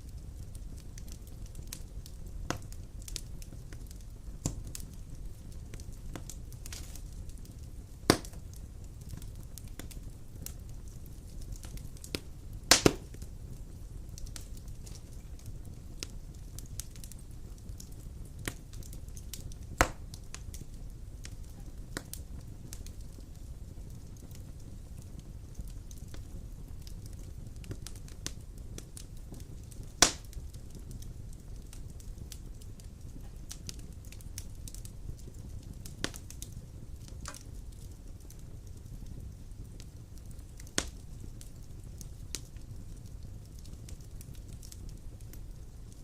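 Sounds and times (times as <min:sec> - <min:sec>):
fire crackling and popping: 0:00.0 - 0:46.0
low rumble of flames: 0:00.0 - 0:46.0.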